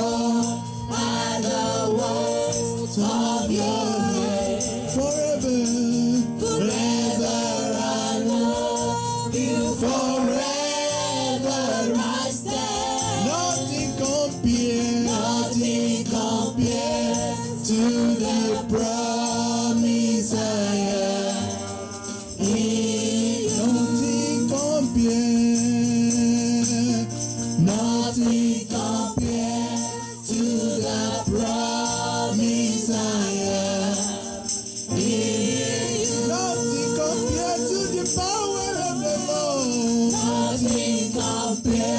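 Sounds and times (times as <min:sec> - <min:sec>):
tambourine jingling: 0:00.0 - 0:41.9
voices singing together: 0:00.0 - 0:41.9.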